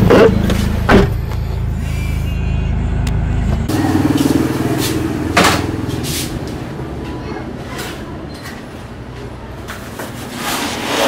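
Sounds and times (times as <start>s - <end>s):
engine humming: 0.0s - 10.1s.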